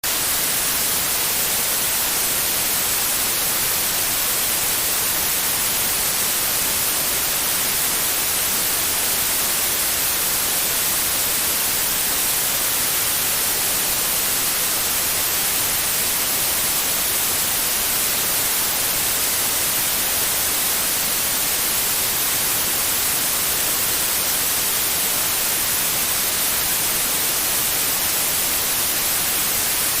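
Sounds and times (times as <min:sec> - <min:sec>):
steady white noise hiss: 0:00.0 - 0:30.0.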